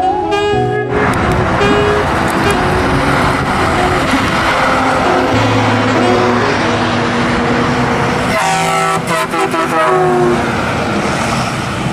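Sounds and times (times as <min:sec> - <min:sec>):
truck horn: 0:00.0 - 0:10.5
heavy trucks passing: 0:00.0 - 0:11.9.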